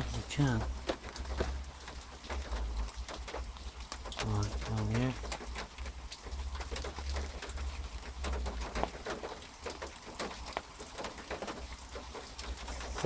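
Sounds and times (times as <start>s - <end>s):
rain dripping and pattering: 0.0s - 13.0s.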